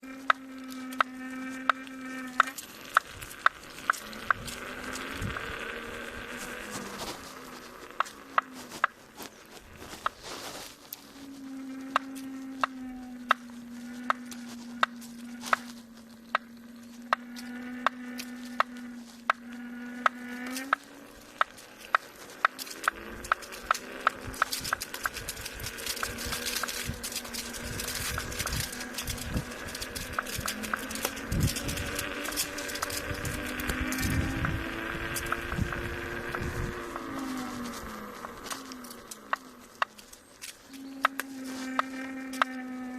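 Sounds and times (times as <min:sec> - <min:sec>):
motor knocking: 0:00.0 - 0:09.0, 0:11.4 - 0:42.9
electric motor hum: 0:00.0 - 0:42.9.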